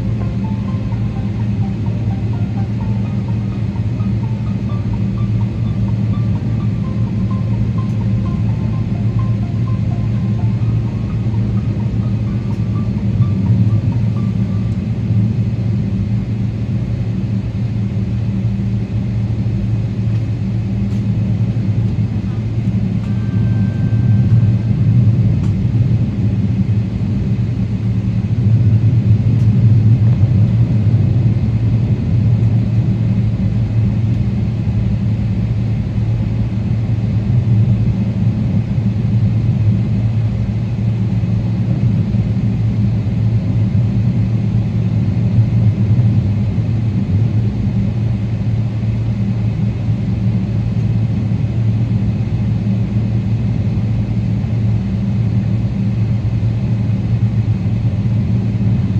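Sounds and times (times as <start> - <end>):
jet engines droning in cabin: 0.0 - 58.9.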